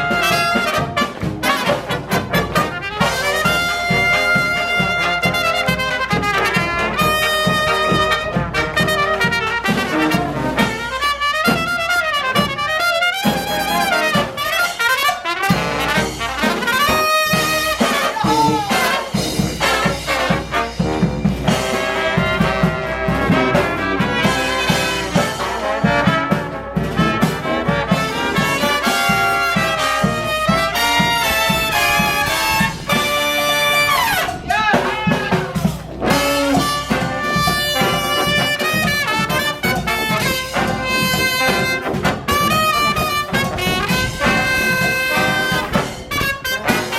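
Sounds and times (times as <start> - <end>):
brass band playing: 0.0 - 46.9.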